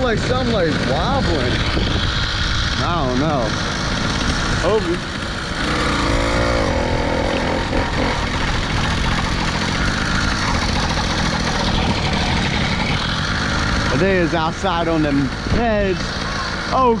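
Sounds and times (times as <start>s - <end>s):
small motorbike engine running: 0.0s - 17.0s.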